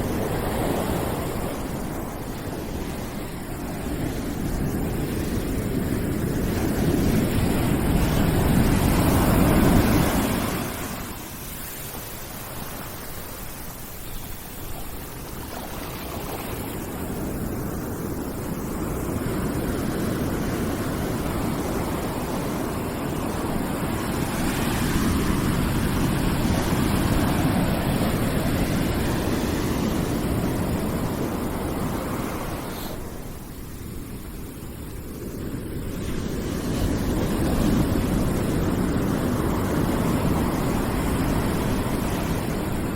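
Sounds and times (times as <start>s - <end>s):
continuous rushing noise: 0.0s - 42.9s.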